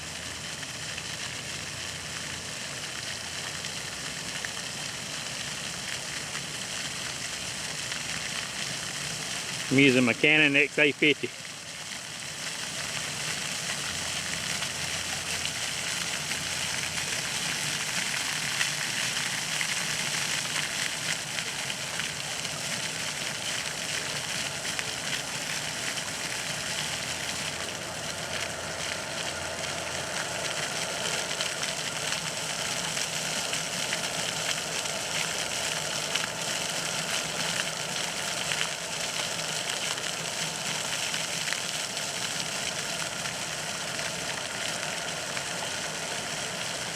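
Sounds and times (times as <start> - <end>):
fountain water splashing: 0.0 - 46.9.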